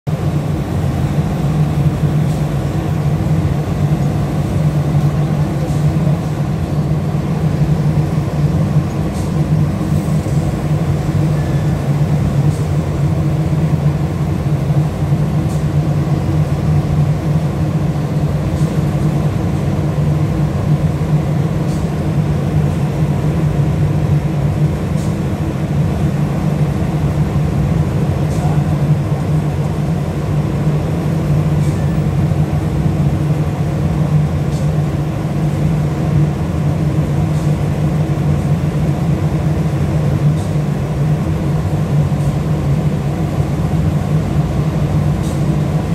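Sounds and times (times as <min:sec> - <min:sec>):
ship diesel engine droning: 0:00.1 - 0:45.9.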